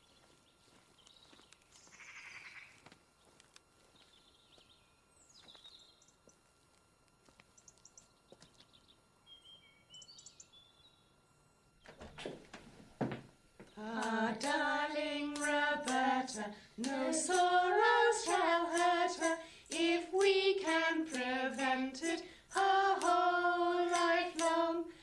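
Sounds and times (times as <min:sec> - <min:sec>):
quiet outdoor ambience: 0:00.0 - 0:25.0.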